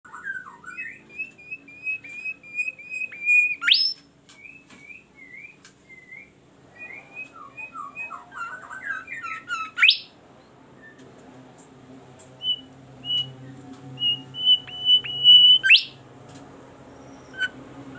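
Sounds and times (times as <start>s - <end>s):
songbird whistling: 0.1s - 10.2s, 10.8s - 11.0s, 12.4s - 16.0s, 16.8s - 17.6s.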